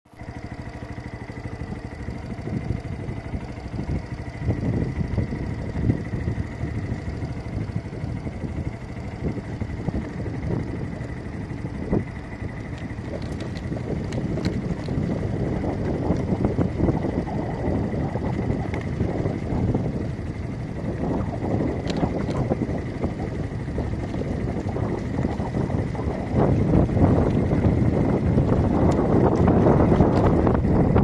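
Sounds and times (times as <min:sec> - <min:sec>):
motorcycle engine rumbling: 0:00.1 - 0:31.0
wind buffeting microphone: 0:00.3 - 0:31.0.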